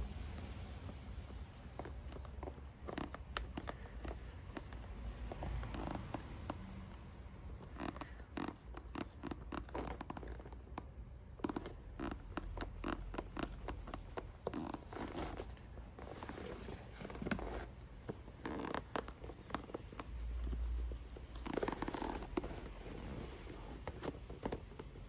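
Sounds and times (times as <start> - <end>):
scraping and rustling on leather: 0.0 - 6.6, 7.5 - 25.0.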